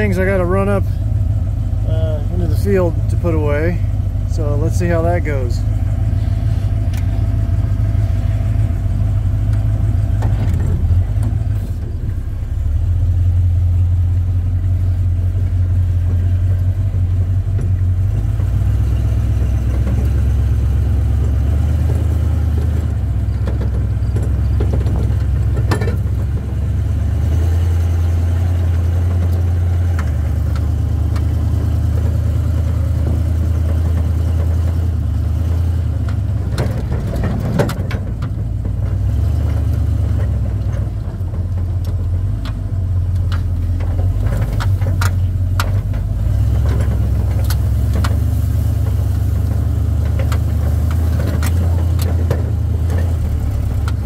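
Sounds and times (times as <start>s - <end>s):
engine running while driving: 0.0s - 54.0s
knocks and rattles: 2.3s - 12.7s, 13.6s - 54.0s.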